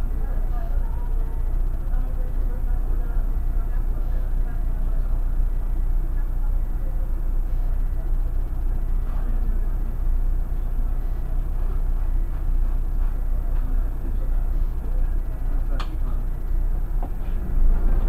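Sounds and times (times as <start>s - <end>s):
bus engine rumbling: 0.0s - 18.0s.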